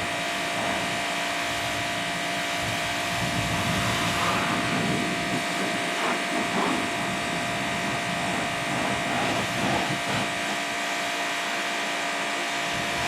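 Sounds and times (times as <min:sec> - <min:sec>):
water jet hissing and spattering: 0:00.0 - 0:11.1
pressure washer motor whine: 0:00.0 - 0:13.0.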